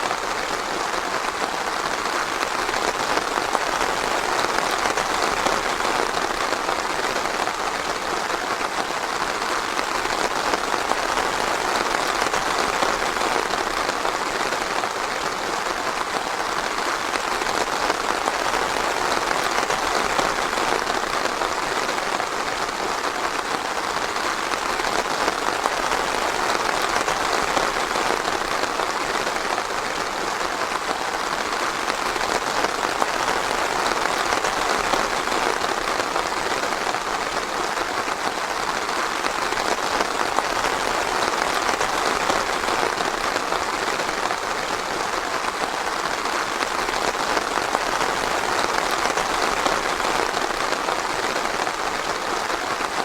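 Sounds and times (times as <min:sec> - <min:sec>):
rain pattering on foliage: 0:00.0 - 0:53.0.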